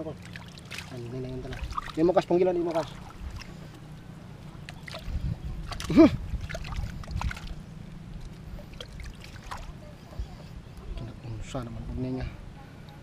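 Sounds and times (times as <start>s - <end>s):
shallow water sloshing and splashing: 0.0s - 11.6s.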